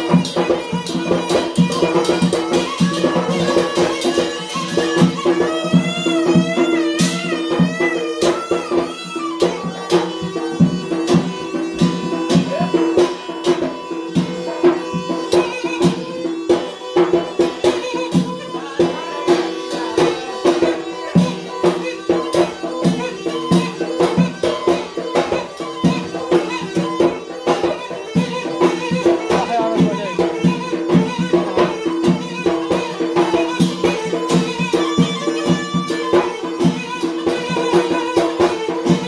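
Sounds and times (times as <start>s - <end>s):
double reed pipe playing: 0.0s - 39.0s
small metal hand drum beat: 0.0s - 39.0s.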